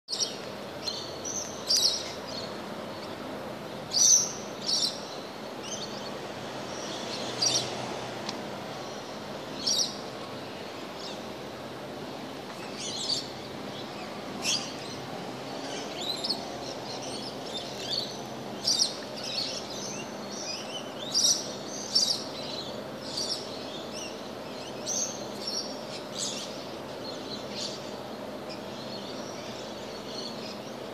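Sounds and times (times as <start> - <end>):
birds chirping: 0.1 - 8.0, 8.6 - 30.9
low background hum: 0.1 - 30.9.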